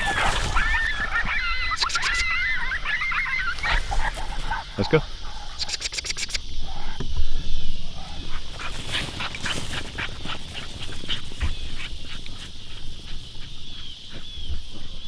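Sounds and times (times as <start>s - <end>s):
dog and coyote yipping: 0.0s - 6.4s, 8.2s - 14.4s.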